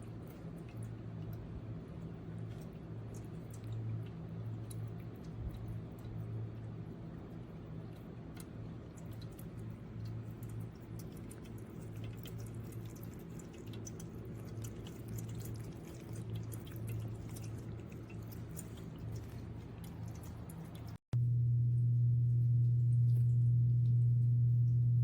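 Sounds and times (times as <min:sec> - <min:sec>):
low pump hum: 0:00.0 - 0:25.0.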